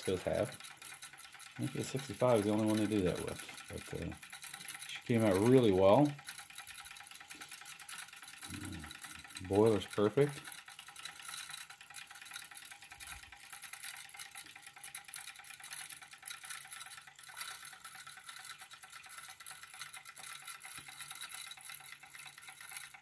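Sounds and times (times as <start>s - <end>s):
toy steam engine ticking: 0.0s - 23.0s.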